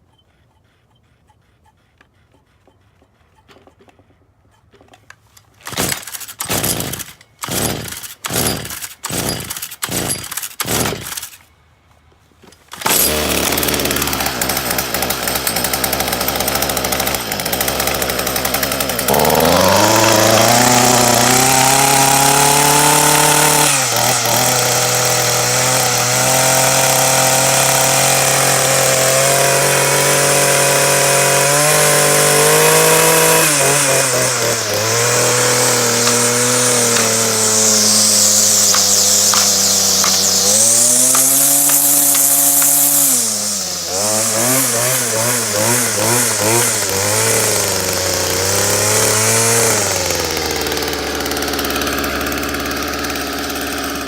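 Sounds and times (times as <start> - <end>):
starter rope pulls: 1.6 - 11.5, 12.4 - 54.0
string trimmer engine running: 5.6 - 11.4, 12.7 - 54.0.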